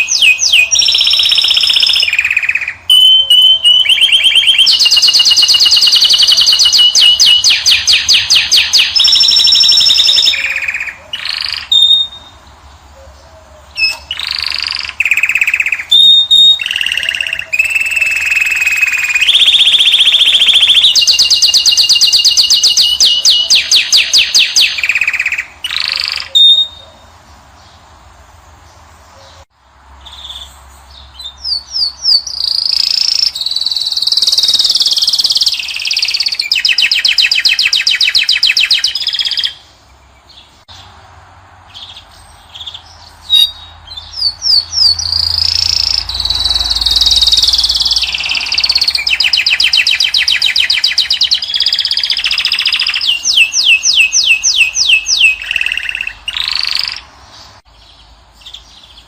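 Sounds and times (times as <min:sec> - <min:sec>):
finch trilling and twittering: 0:00.0 - 0:27.8, 0:30.0 - 0:40.8, 0:41.8 - 0:59.0.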